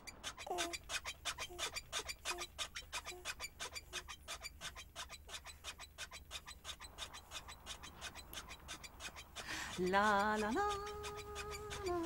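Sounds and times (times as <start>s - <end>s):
rapid even ticking: 0.0s - 12.0s.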